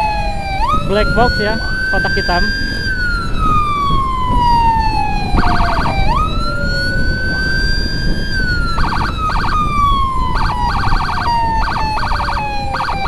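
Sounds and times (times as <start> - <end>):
electronic siren wailing: 0.0 - 13.0
stuttering siren bursts: 0.0 - 13.0
wind and road noise: 0.0 - 13.0.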